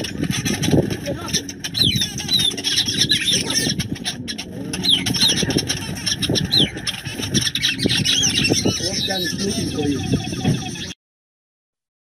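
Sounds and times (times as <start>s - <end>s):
low background rumble: 0.0s - 10.9s
small birds chirping rapidly: 0.0s - 11.0s.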